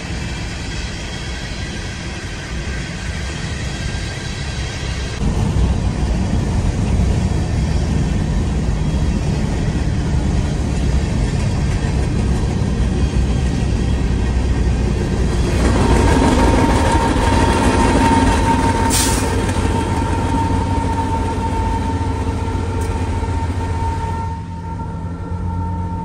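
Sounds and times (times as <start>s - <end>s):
freight train rumbling past: 0.0s - 26.0s
locomotive engine whine: 0.0s - 26.0s.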